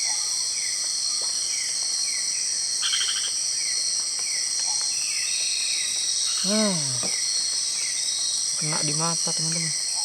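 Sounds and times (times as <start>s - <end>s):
crickets and insects droning: 0.0s - 10.0s.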